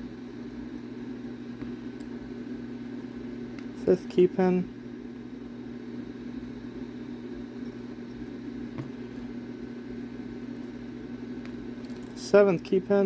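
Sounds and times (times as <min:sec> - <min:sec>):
low hum with fan hiss: 0:00.0 - 0:13.0.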